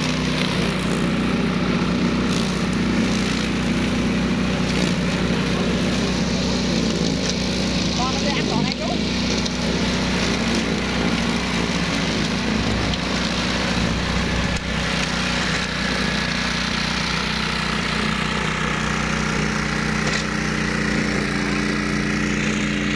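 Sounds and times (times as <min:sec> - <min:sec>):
mower engine running: 0:00.0 - 0:22.9.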